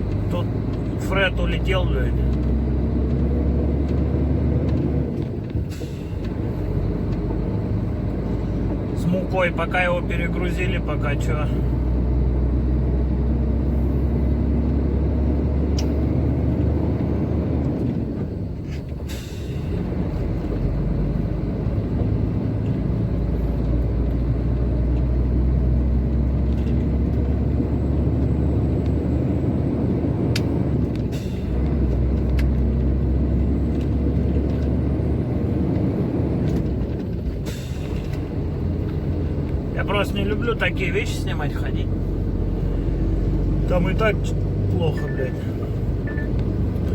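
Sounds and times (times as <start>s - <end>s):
truck engine drone in cab: 0.0s - 46.9s.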